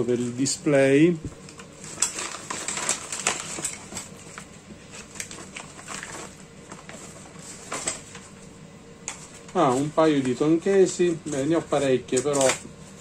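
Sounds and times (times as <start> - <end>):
plastic bag rustling: 0.1 - 13.0.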